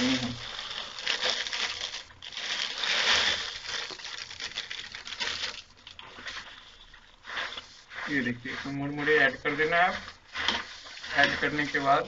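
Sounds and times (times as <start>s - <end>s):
puffed rice pouring: 0.0s - 12.0s.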